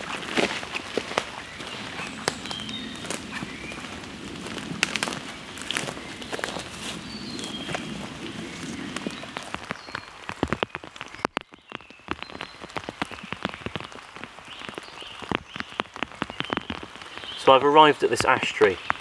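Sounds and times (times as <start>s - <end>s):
raindrops tapping on leaves: 0.0s - 19.0s
soft rain hiss: 0.0s - 19.0s.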